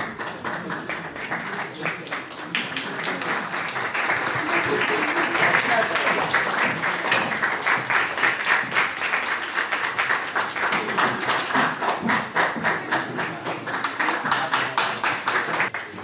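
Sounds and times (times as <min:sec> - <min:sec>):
audience clapping: 0:00.0 - 0:16.0.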